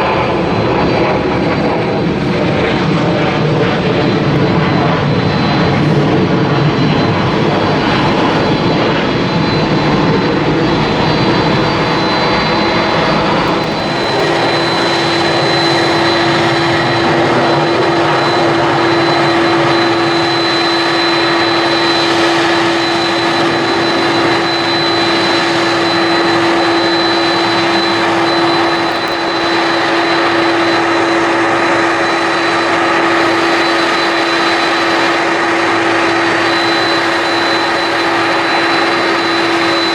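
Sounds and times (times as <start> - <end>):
high engine whine: 0.0 - 39.9
jet engines rumbling: 0.0 - 39.9.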